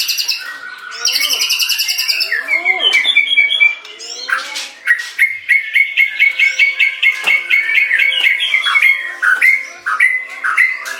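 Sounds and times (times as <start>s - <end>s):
bird singing repeated notes: 0.0s - 10.9s.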